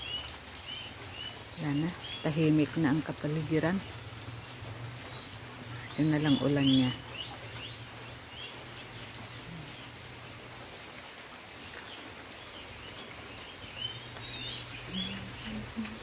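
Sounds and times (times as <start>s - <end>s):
light rain falling: 0.0s - 16.0s
small birds chirping: 0.0s - 16.0s.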